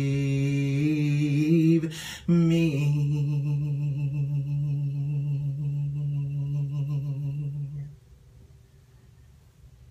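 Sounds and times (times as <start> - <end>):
man singing a long note: 0.0 - 8.0.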